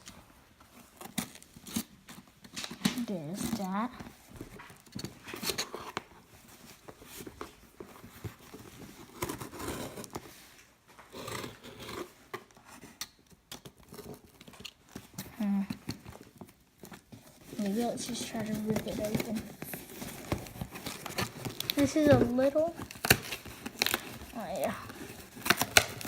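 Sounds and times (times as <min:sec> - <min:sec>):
plastic and cardboard crinkling: 0:00.0 - 0:26.0.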